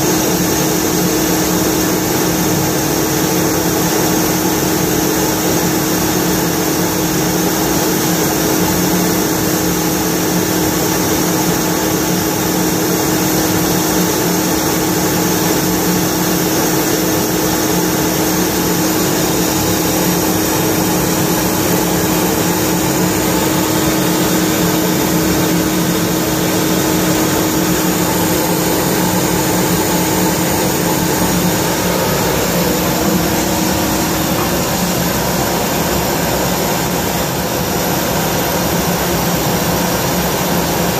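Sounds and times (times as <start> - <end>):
air compressor running: 0.0 - 40.9.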